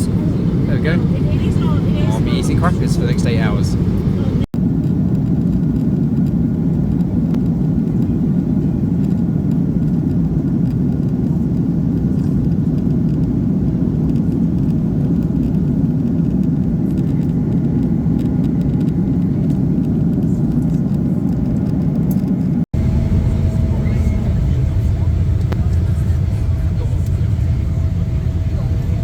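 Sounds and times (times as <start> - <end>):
vehicle cabin rumble: 0.0 - 29.0.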